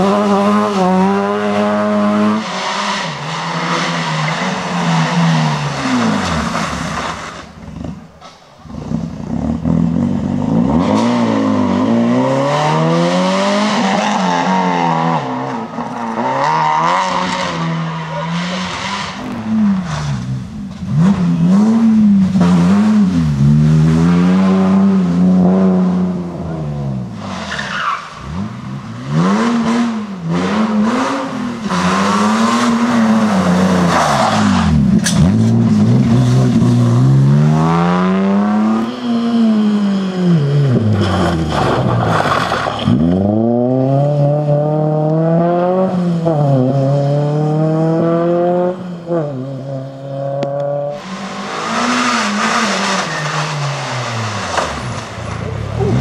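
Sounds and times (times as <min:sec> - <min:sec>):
rally car engines revving: 0:00.0 - 0:56.0
tyres skidding: 0:00.0 - 0:56.0.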